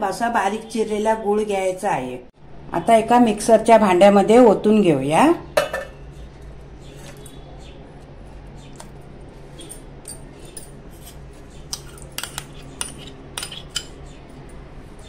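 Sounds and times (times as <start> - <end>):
steady low hum: 2.0 - 15.0.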